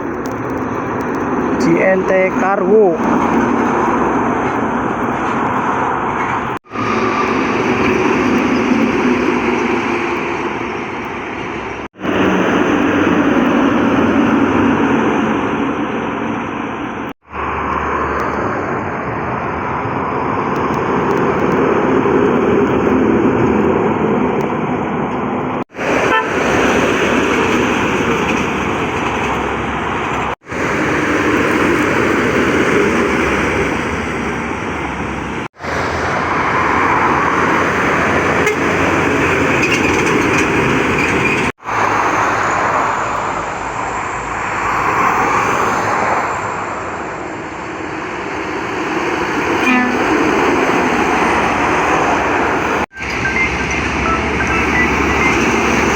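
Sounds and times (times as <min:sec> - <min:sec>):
heavy trucks driving past: 0:00.0 - 0:55.9.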